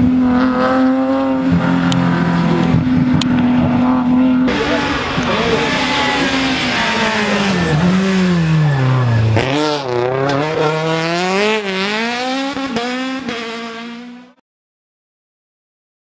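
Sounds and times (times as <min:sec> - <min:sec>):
rally car engine revving: 0:00.0 - 0:14.4.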